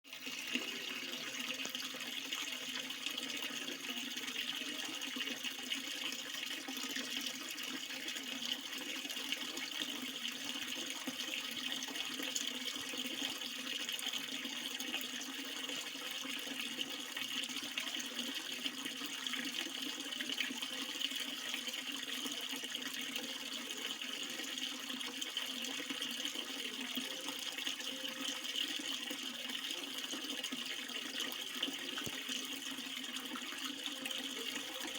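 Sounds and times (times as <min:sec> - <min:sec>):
water running: 0:00.1 - 0:34.9.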